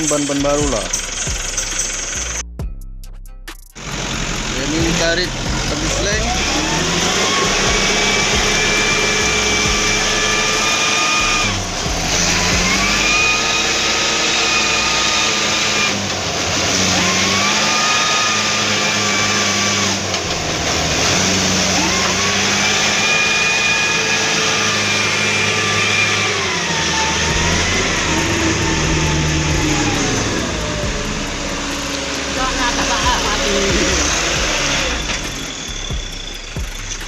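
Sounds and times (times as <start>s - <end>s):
truck diesel engine labouring: 0.0s - 2.6s, 3.7s - 37.0s.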